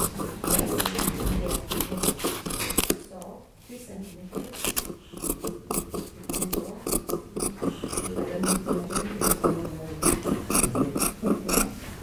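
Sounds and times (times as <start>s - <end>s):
shears snipping fabric: 0.0s - 3.1s, 4.3s - 11.8s.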